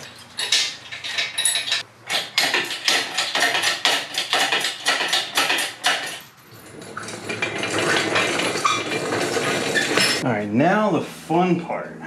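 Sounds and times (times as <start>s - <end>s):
metal scraping: 0.0s - 10.2s.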